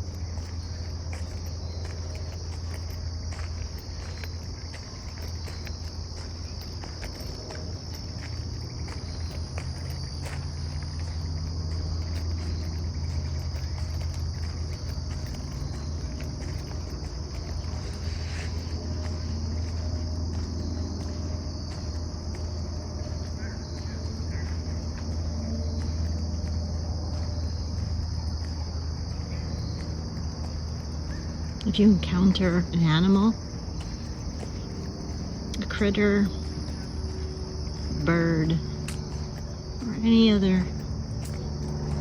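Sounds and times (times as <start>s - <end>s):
crickets and insects chirring: 0.0s - 42.0s
footsteps crunching on path: 0.0s - 42.0s.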